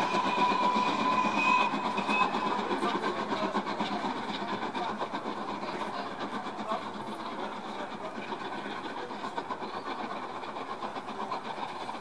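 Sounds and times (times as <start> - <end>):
steam locomotive exhaust beating: 0.0 - 12.0.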